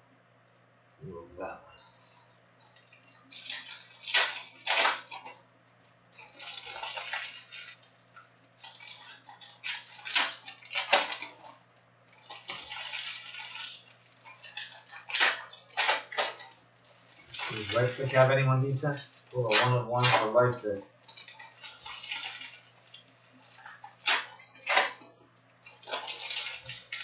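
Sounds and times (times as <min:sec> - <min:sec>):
foil wrappers crinkling and tearing: 0:02.6 - 0:27.0.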